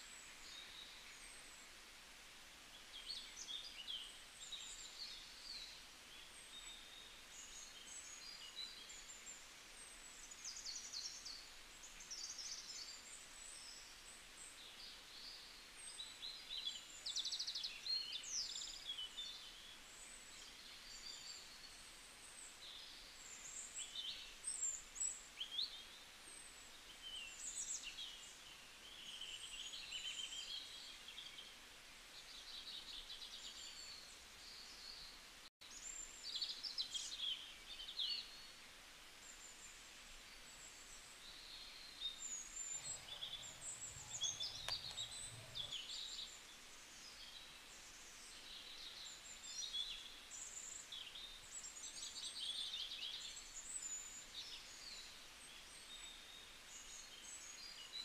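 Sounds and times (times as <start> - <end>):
faint steady hiss: 0.0 - 58.0
songbirds chirping and twittering: 0.0 - 58.0.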